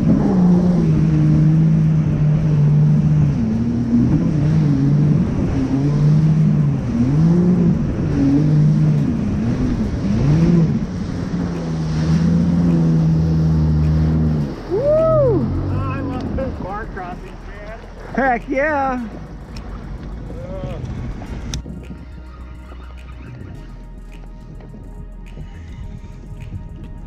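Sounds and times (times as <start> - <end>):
watercraft engine running: 0.0 - 27.0
wind and water rushing: 0.0 - 27.0.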